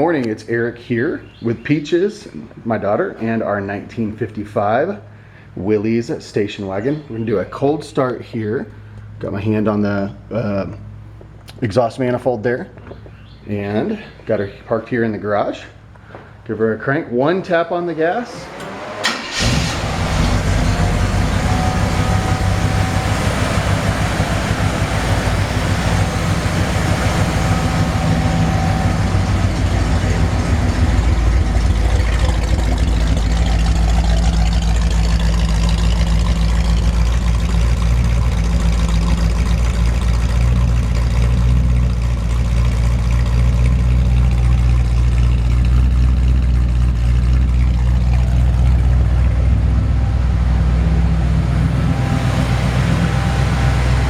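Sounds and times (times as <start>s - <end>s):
car engine idling: 0.0s - 16.6s, 17.2s - 54.0s.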